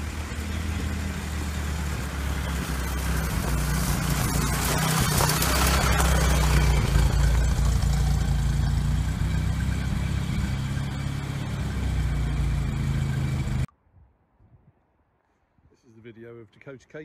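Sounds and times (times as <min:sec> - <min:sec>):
car engine running: 0:00.0 - 0:13.7.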